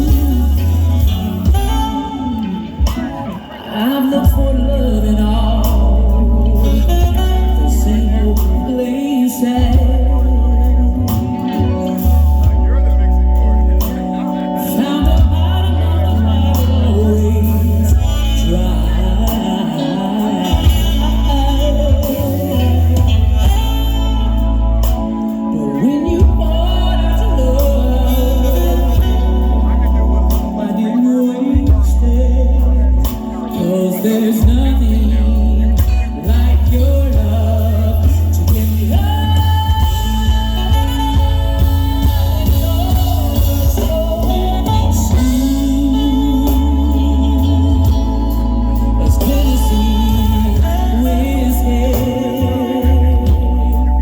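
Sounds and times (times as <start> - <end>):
loud sustained bass notes: 0.0 - 3.2, 4.1 - 54.0
person singing with wide vibrato: 0.0 - 54.0.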